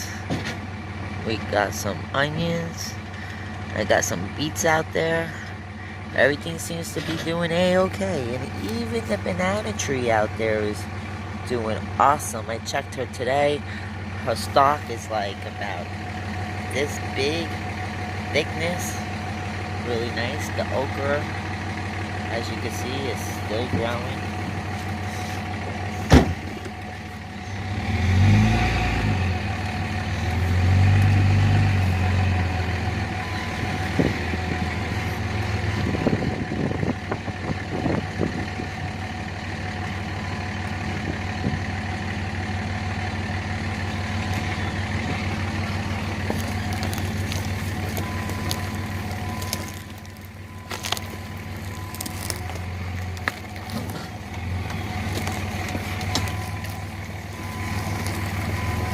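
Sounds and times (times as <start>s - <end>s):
vehicle engine revving: 0.0s - 6.3s, 13.2s - 58.9s.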